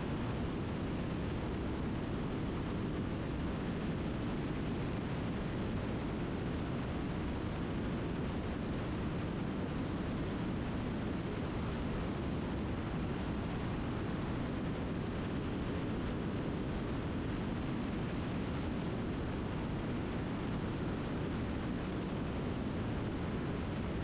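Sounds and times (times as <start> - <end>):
light aircraft cockpit rumble: 0.0 - 24.0.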